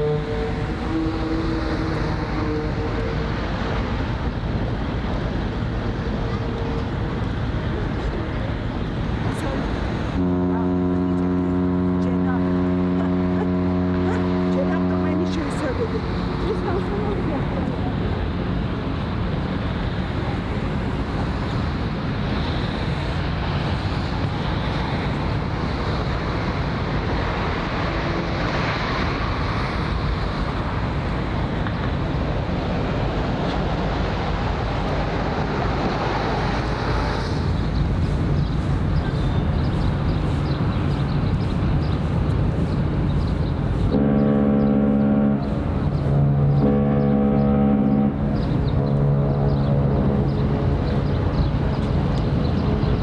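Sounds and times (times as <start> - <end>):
ship's horn blast: 0.0 - 8.0, 8.6 - 53.0
outdoor background noise: 0.0 - 53.0.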